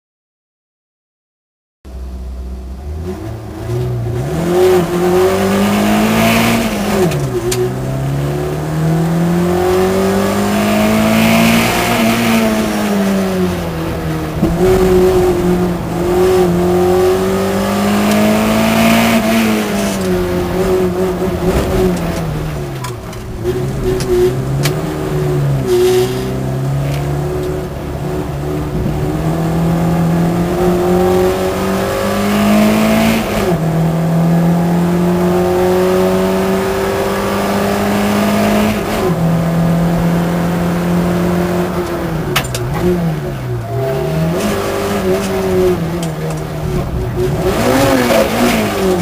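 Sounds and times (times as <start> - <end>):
car engine revving at full throttle: 1.9 - 49.0.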